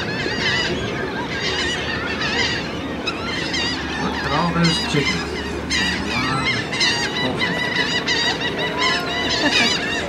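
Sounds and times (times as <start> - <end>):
gulls squawking: 0.0 - 10.0.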